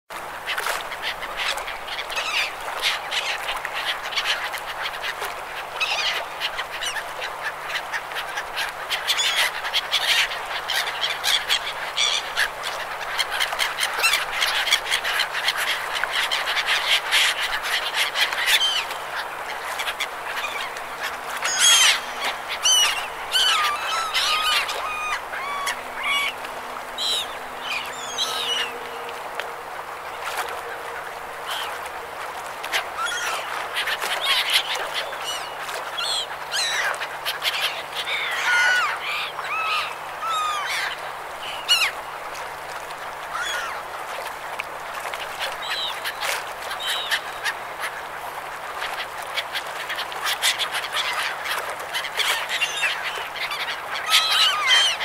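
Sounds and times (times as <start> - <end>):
seagulls calling: 1.0 - 42.0, 43.2 - 43.9, 49.0 - 55.0.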